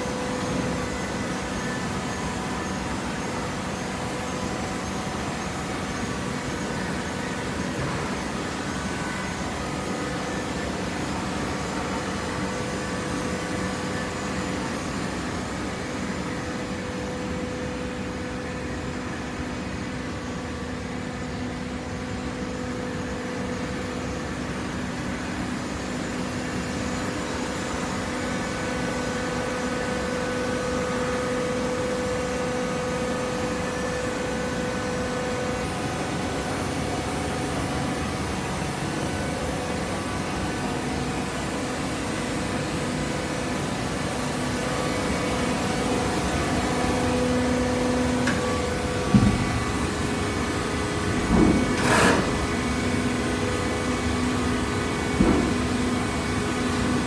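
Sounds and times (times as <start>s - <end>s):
baler machine hum and whine: 0.0s - 57.0s.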